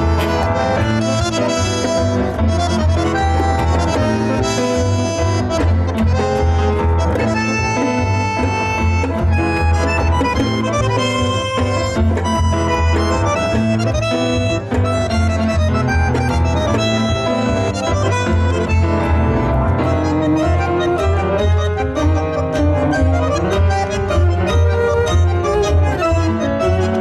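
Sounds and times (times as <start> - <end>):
bandoneon melody: 0.0 - 27.0
double bass: 0.0 - 27.0
grand piano: 0.0 - 27.0
violin: 0.0 - 27.0.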